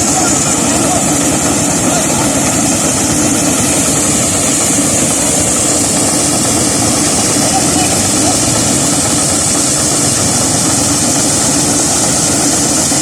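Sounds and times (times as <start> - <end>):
corn sheller hissing rattle: 0.0 - 13.0
engine drone: 0.0 - 13.0.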